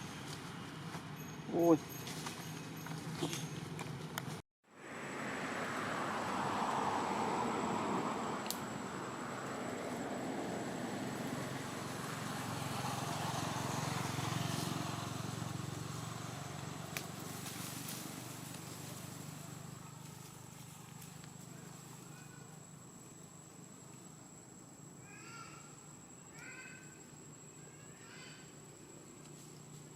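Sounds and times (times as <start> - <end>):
passing vehicle engine rumble: 0.0 - 25.0.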